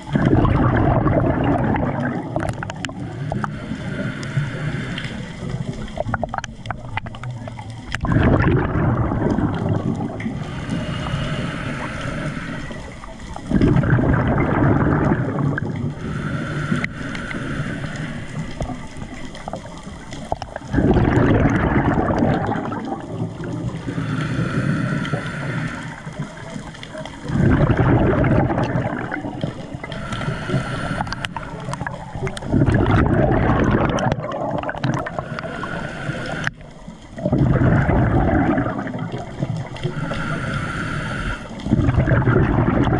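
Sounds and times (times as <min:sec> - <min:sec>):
underwater gurgling surges: 0:00.0 - 0:42.9.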